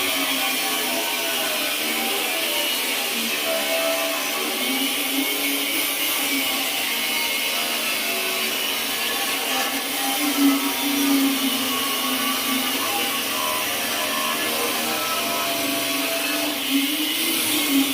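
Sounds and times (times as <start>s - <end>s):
angle grinder whining: 0.0s - 17.9s.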